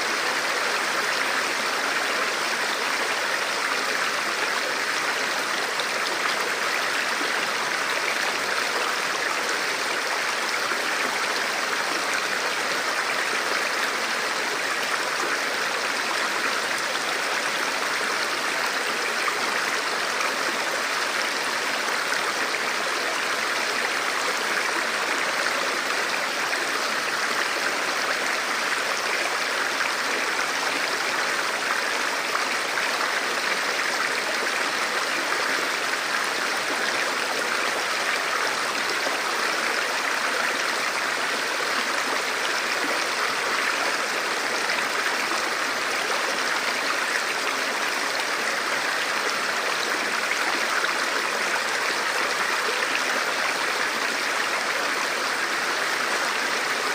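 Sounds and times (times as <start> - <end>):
stream flowing over rocks: 0.0 - 56.9.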